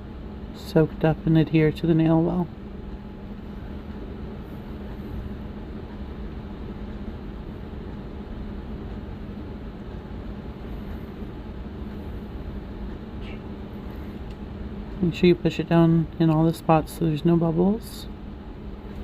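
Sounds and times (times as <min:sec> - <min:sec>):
room noise low hum with hiss: 0:00.0 - 0:19.0.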